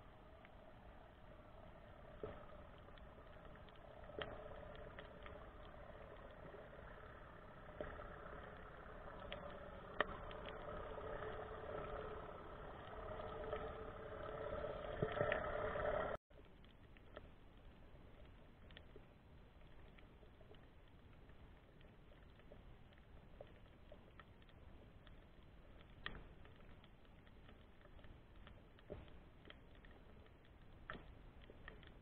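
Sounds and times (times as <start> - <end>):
engine drone underwater: 0.0 - 32.0.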